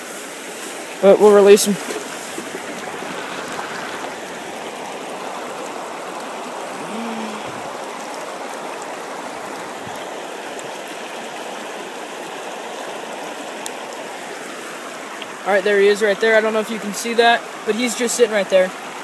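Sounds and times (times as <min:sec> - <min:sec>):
river water flowing over rocks: 0:00.0 - 0:19.0.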